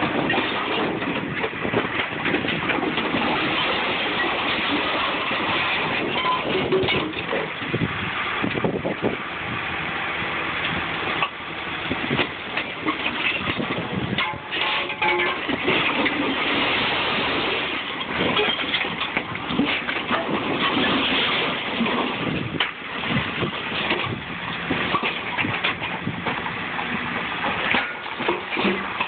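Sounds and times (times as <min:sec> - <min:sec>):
metal blocks scraping and clanking: 0:00.0 - 0:07.8, 0:12.1 - 0:29.0
loader engine under load: 0:00.0 - 0:29.0.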